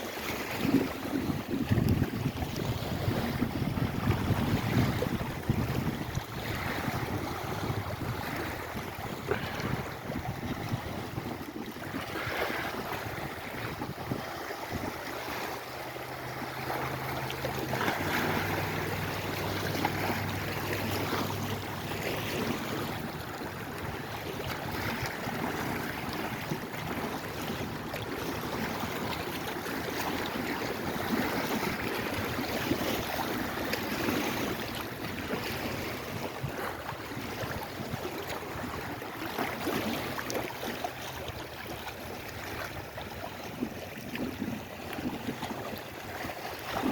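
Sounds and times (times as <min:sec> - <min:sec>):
waves washing in: 0:00.0 - 0:46.9.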